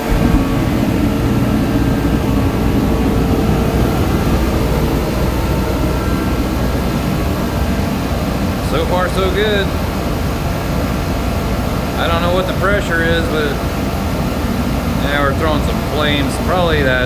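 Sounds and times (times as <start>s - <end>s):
heater fan and burner rushing: 0.0s - 17.0s.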